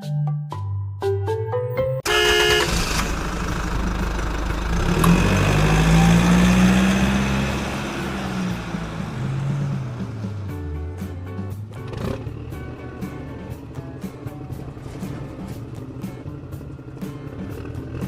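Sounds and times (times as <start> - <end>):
engine running: 2.0 - 18.0.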